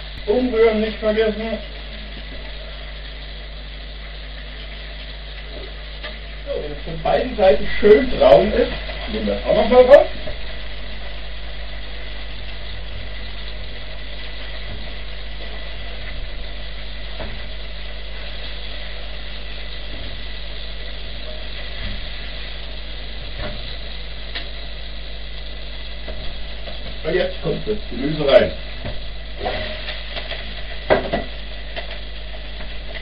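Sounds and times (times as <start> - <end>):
low hum: 0.0 - 33.0
ribs sizzling in a pan: 0.0 - 33.0.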